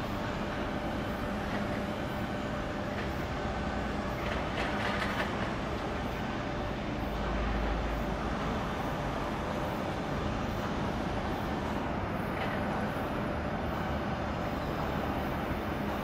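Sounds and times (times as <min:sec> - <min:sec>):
industrial rumble and hiss: 0:00.0 - 0:16.0.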